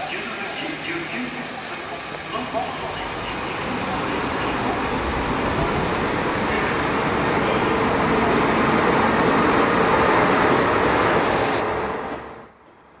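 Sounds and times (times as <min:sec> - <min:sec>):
passing train running noise: 0:00.0 - 0:13.0.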